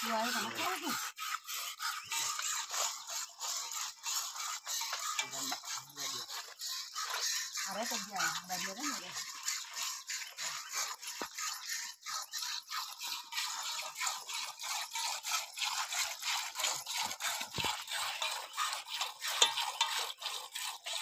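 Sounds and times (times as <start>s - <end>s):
milk squirting into metal bucket: 0.0s - 21.0s.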